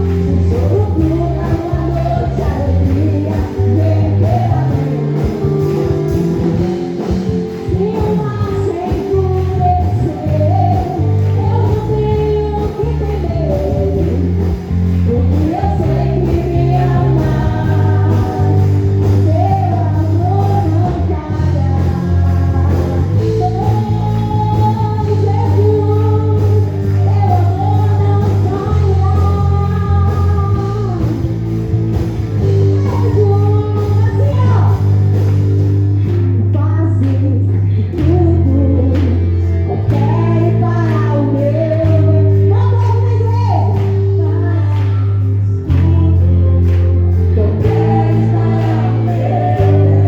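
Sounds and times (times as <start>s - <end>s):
person singing: 0.0s - 31.6s, 32.3s - 34.9s, 36.2s - 50.0s
live gospel music: 0.0s - 50.0s
steady bass line: 0.0s - 50.0s.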